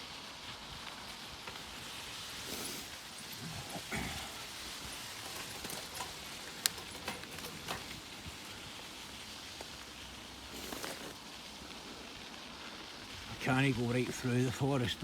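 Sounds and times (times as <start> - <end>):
bicycle tyres hissing: 0.0 - 15.0
small clicks and ticks: 0.5 - 13.2.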